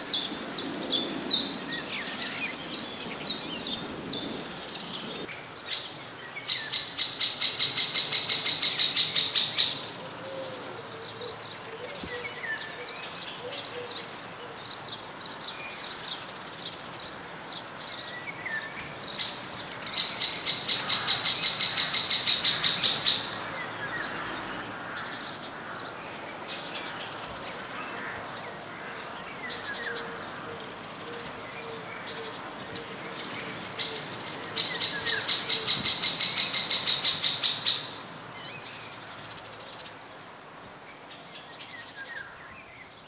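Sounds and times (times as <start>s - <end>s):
light steady hiss: 0.0s - 43.0s.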